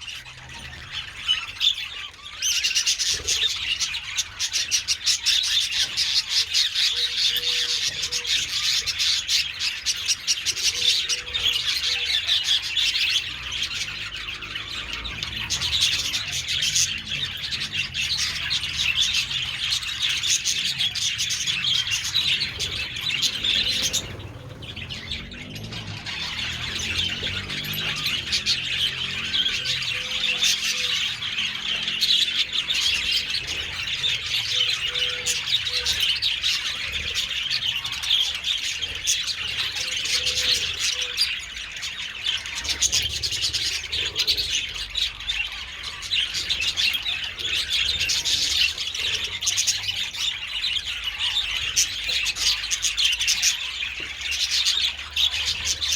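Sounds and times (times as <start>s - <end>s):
budgerigars chattering: 0.0s - 55.9s.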